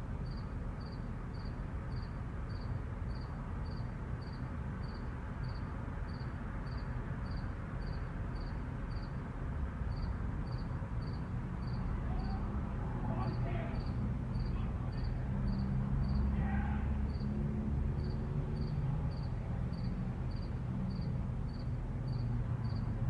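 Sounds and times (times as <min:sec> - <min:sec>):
distant traffic rumble: 0:00.0 - 0:23.0
cricket chirping: 0:00.2 - 0:09.2, 0:09.9 - 0:12.4, 0:13.2 - 0:16.3, 0:17.0 - 0:17.4, 0:18.0 - 0:23.0.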